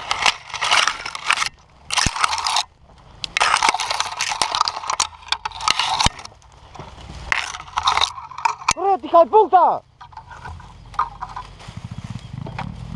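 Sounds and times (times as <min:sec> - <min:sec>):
branches scraping against helmet: 0:00.0 - 0:12.9.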